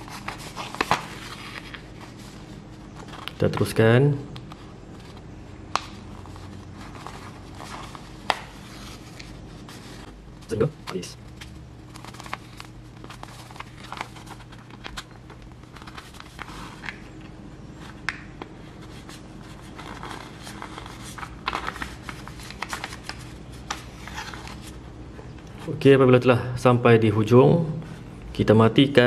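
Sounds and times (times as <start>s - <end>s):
paper rustling and crinkling: 0.0s - 3.8s, 4.5s - 24.8s
steady low hum: 0.0s - 29.0s.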